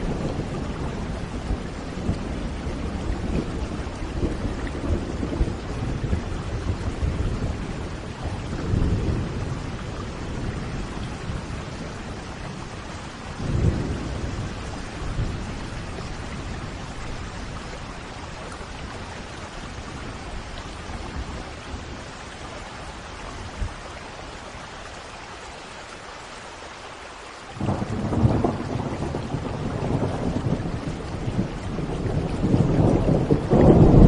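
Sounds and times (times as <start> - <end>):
rolling thunder: 0.0 - 22.2, 27.6 - 34.0
rain hissing: 0.0 - 34.0.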